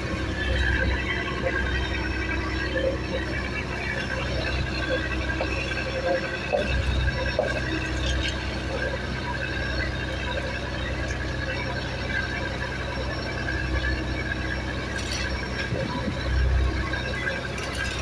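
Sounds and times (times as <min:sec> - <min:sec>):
boat engine running: 0:00.0 - 0:18.0
mechanical whine: 0:00.0 - 0:18.0.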